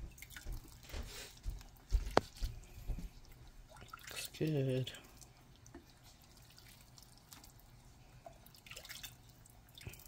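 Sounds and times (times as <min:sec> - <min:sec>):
broth dripping into bowl: 0:00.1 - 0:10.0.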